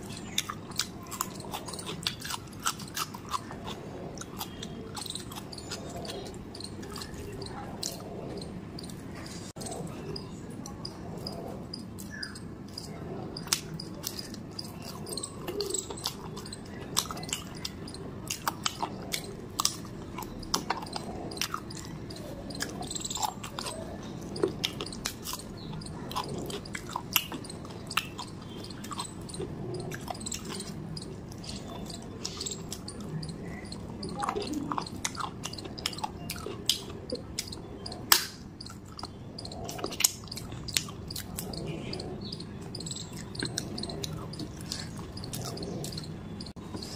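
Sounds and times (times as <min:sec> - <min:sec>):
sharp mouth clicks: 0:00.0 - 0:09.0, 0:09.6 - 0:46.9
person chewing food: 0:00.0 - 0:46.9.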